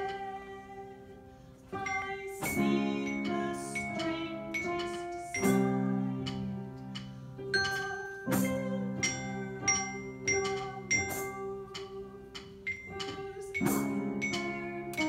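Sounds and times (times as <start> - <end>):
low keyboard chords: 0.0 - 15.0
glockenspiel notes: 1.8 - 15.0.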